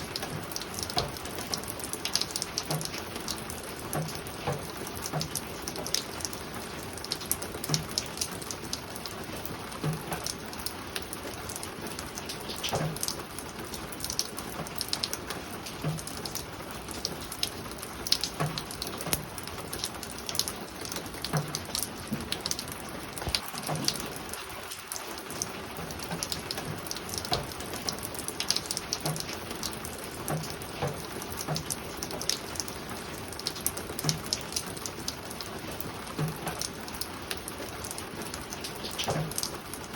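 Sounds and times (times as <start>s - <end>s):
heavy drips knocking: 0.0s - 39.9s
rain falling on a roof: 0.0s - 39.9s.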